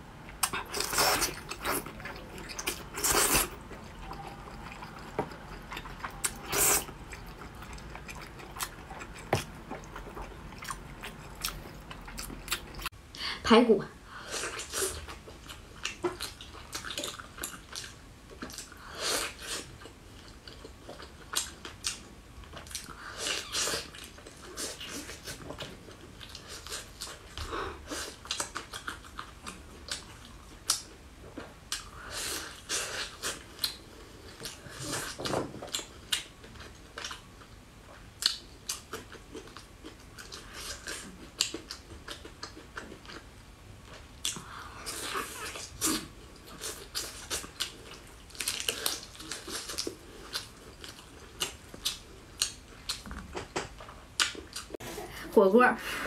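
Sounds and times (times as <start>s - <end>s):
person chewing meat: 0.2s - 12.9s, 14.4s - 54.8s.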